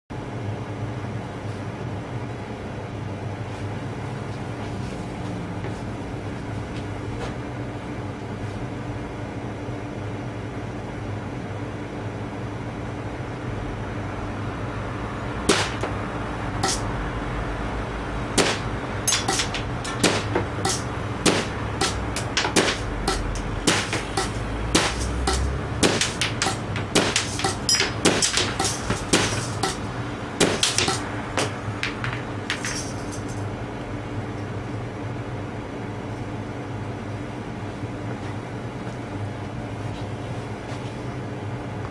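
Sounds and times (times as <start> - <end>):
low mechanical hum: 0.1 - 41.9.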